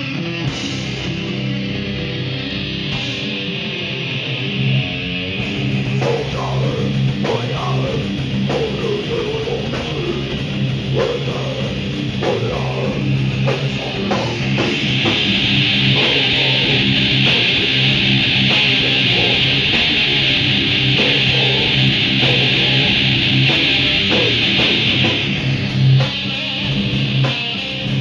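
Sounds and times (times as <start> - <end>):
distorted electric guitars: 0.0 - 28.0
pounding drum kit: 0.0 - 28.0.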